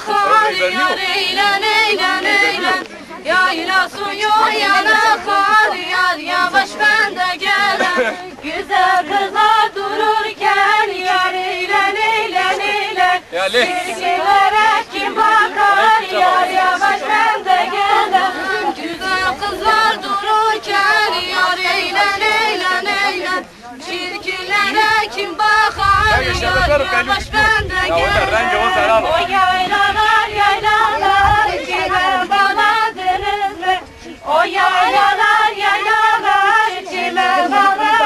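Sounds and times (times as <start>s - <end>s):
women singing in unison: 0.0s - 38.0s.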